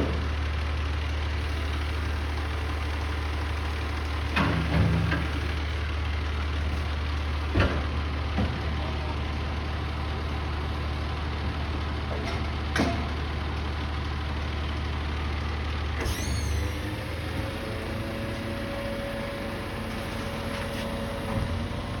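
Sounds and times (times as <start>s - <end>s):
garbage truck engine running: 0.0s - 22.0s.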